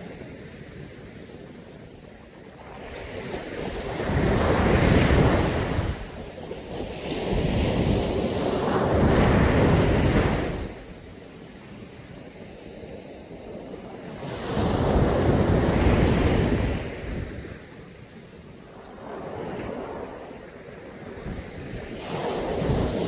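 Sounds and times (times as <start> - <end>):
waves breaking on a beach: 0.0 - 23.0.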